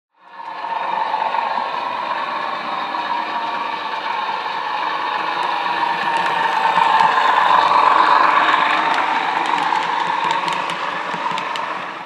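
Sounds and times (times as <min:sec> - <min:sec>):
train running with clatter: 0:00.2 - 0:12.0.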